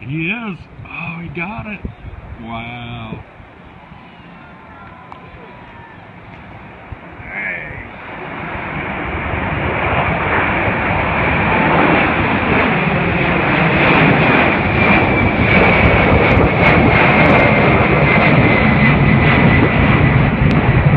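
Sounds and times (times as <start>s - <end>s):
high jet whine: 0.0s - 20.9s
jet engine roar: 0.0s - 20.9s.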